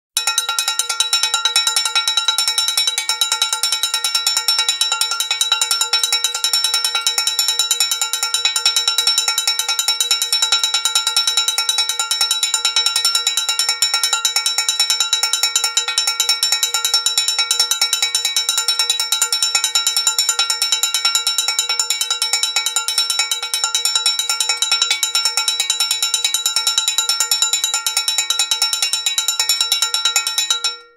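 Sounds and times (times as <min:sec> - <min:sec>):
cowbell struck rapidly: 0:00.2 - 0:30.9.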